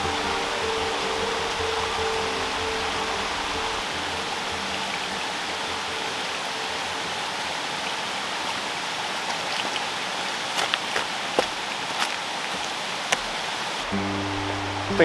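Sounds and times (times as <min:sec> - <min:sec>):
water rushing over cascades: 0:00.0 - 0:15.0.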